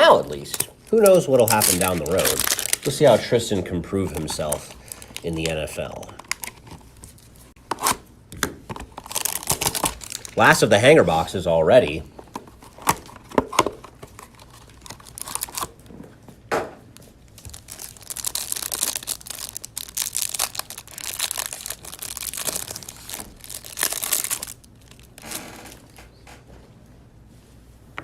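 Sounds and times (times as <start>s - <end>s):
plastic wrapping crinkling: 0.0s - 7.6s, 8.7s - 11.3s, 12.2s - 15.9s, 17.0s - 26.2s.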